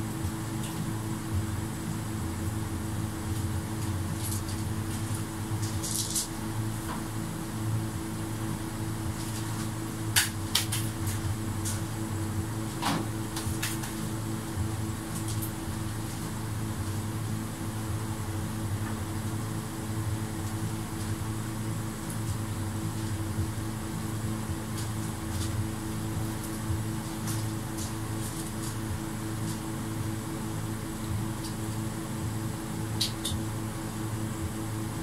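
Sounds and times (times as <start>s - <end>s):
ventilation fan humming: 0.0s - 35.0s.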